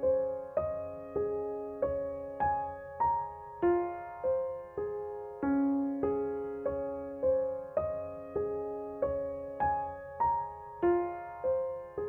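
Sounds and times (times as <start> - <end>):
slow calm piano music: 0.0 - 12.0.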